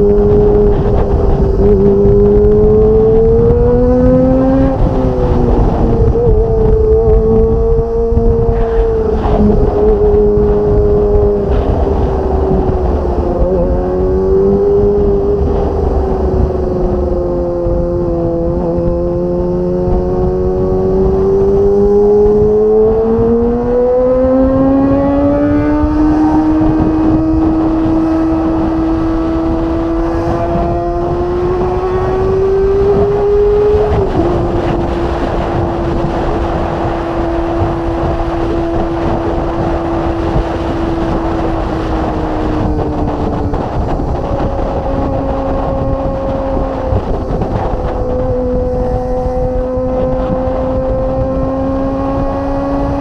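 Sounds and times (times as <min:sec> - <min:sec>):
motorcycle engine at high revs: 0:00.0 - 0:53.0
wind rumble: 0:00.0 - 0:53.0.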